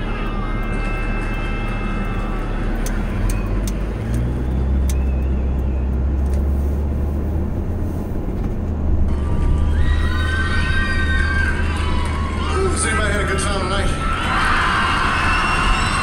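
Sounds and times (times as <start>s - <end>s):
low engine rumble: 0.0s - 16.0s
tyres on wet road: 0.0s - 16.0s.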